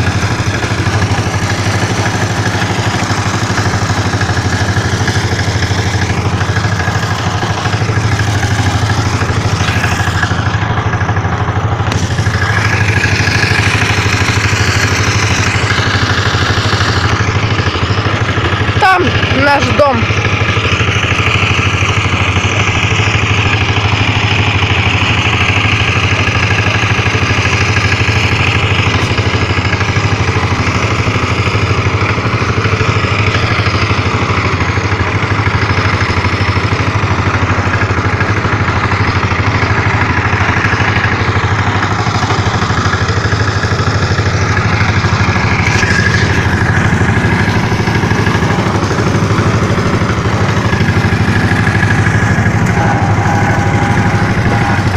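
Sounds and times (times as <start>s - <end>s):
engine humming: 0.0s - 54.9s.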